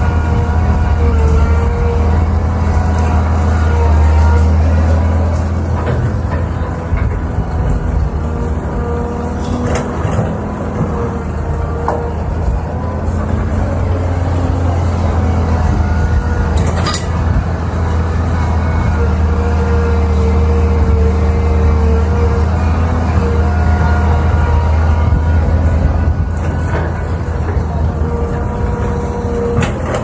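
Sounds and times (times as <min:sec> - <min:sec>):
excavator diesel engine under load: 0:00.0 - 0:30.0
hydraulic whine: 0:00.0 - 0:30.0.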